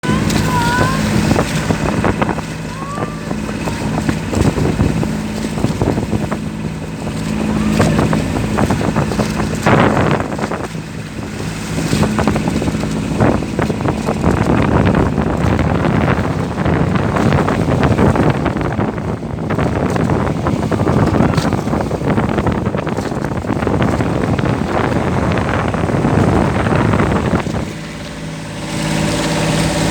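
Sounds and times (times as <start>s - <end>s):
small boat engine running: 0.0s - 29.9s
wind buffeting microphone: 0.0s - 29.9s.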